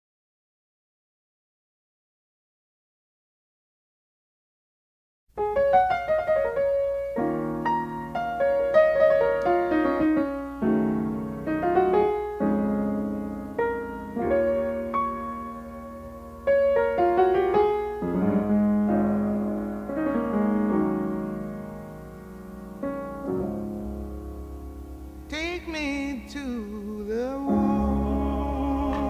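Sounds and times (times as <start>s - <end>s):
slow piano melody: 5.4s - 29.0s.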